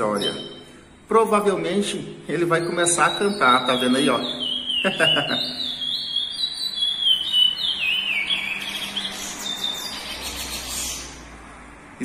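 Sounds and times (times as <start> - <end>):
finch singing whistled notes: 0.0 - 11.2.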